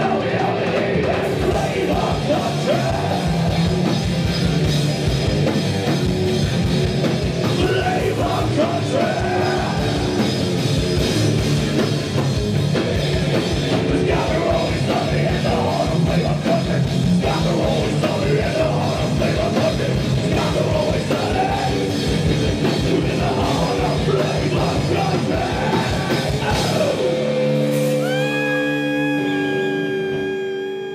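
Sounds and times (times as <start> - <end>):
people singing and yelling: 0.0 - 4.8, 7.4 - 10.6, 13.4 - 30.9
bass guitar: 0.0 - 30.9
distorted electric guitars: 0.0 - 30.9
drum kit: 0.0 - 30.9.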